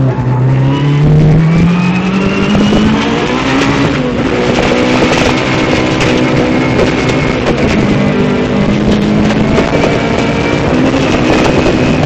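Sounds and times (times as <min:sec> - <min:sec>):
car engine accelerating: 0:00.0 - 0:12.0
road and cabin noise: 0:00.0 - 0:12.0.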